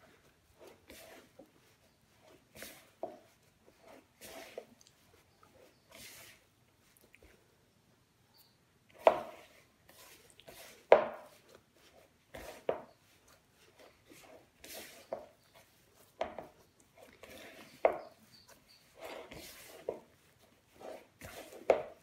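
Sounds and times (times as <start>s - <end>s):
dough squishing and scraping: 0.0s - 7.6s, 8.9s - 22.0s.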